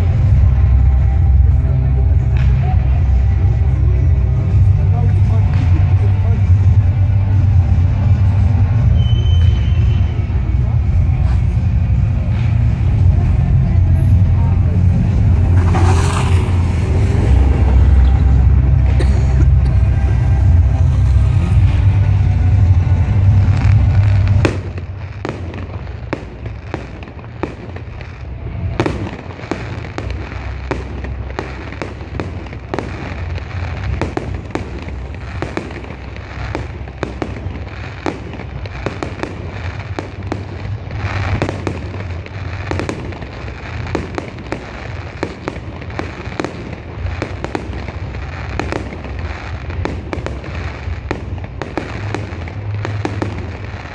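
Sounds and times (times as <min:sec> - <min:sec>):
fireworks popping and crackling: 0:00.0 - 0:53.9
loud fireworks bangs: 0:00.0 - 0:53.9
loud low rumble: 0:00.0 - 0:53.9.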